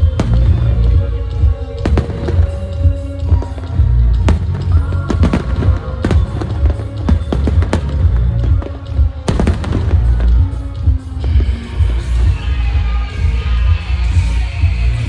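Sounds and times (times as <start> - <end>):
fireworks bursting with sharp bangs: 0.0 - 12.5
loud music with heavy bass: 0.0 - 15.0.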